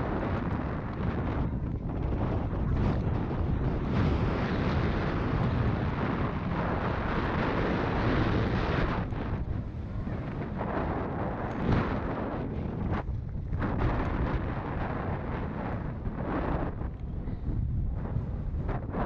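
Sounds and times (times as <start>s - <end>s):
tyres rumbling on trail: 0.0s - 19.0s
wind buffeting microphone: 0.0s - 19.0s.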